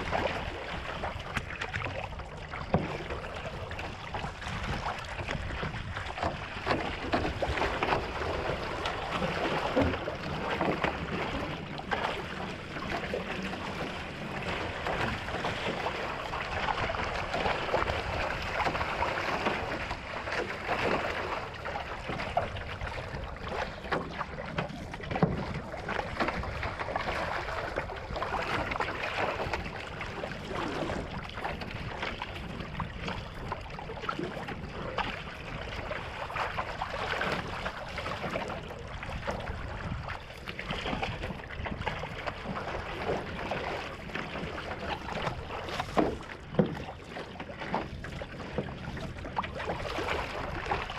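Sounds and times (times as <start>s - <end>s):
paddle stroke splashes: 0.0s - 50.9s
water rushing along hull: 0.0s - 50.9s.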